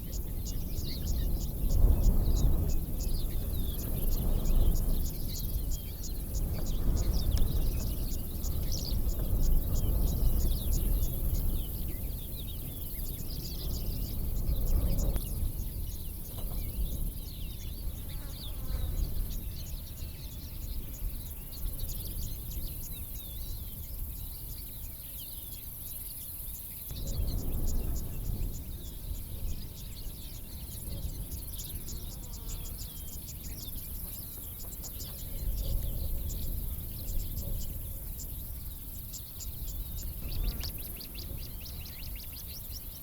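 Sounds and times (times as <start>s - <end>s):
birds chirping: 0.0s - 43.0s
high insect hiss: 0.0s - 43.0s.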